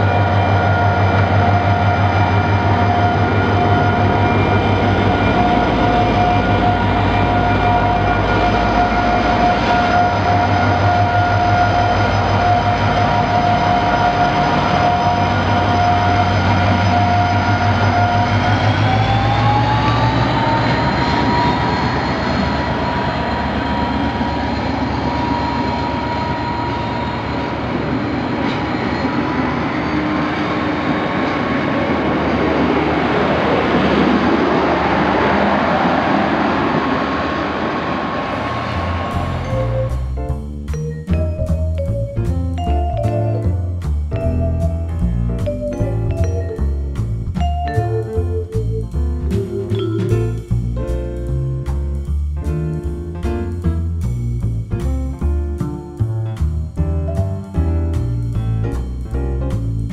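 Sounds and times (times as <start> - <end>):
locomotive whine: 0.0 - 51.5
train carriages rolling: 0.0 - 51.5
diesel locomotive engine drone: 0.0 - 59.9.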